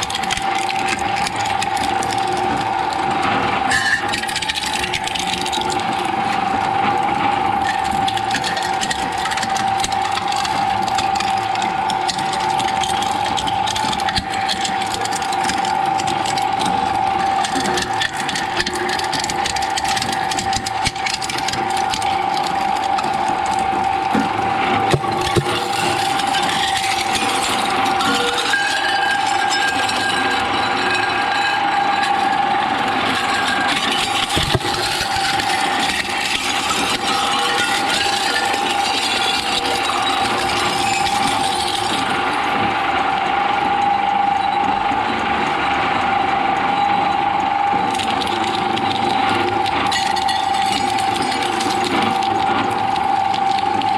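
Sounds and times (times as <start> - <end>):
shredder grinding: 0.0 - 53.9.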